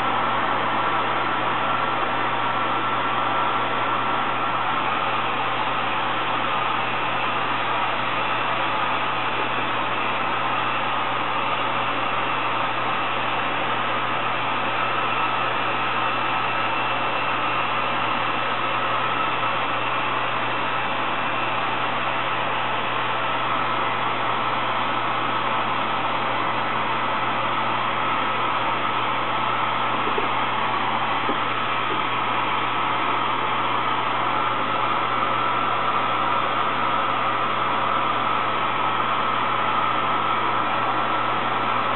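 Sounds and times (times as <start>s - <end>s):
faint constant whine: 0.0s - 41.9s.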